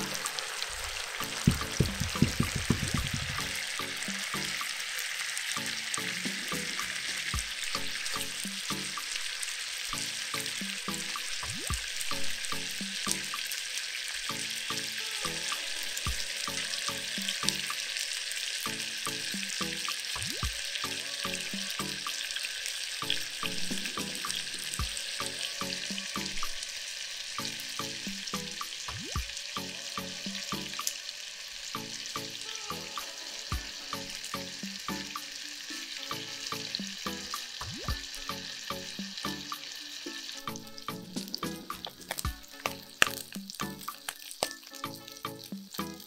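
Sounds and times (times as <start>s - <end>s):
background music: 0.0s - 46.0s
chicken wings frying: 0.0s - 46.0s.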